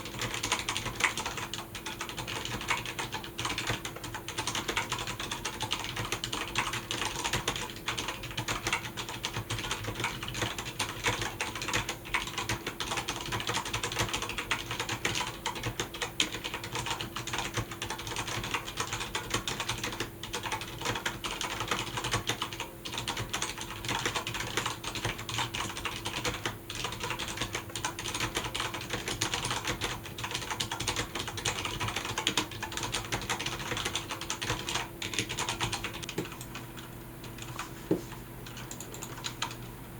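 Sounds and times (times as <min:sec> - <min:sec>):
fast typing on mechanical keyboard: 0:00.0 - 0:37.6, 0:38.4 - 0:39.6
faint steady hum: 0:00.0 - 0:39.9.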